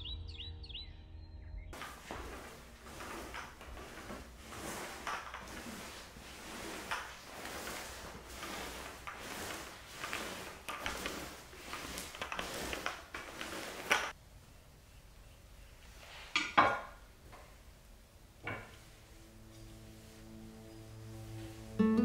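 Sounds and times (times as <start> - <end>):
bedding rustling and swishing: 1.8 - 14.2, 15.7 - 22.0.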